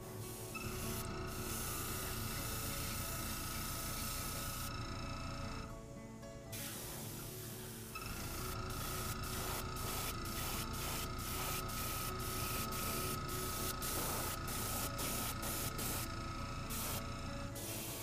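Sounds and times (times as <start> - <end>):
airbrush spraying hiss: 0.0 - 4.7, 6.6 - 18.0.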